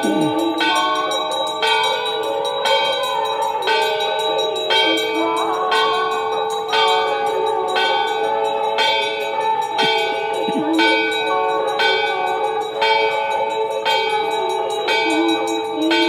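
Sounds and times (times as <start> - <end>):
temple bells clanging: 0.0 - 16.0.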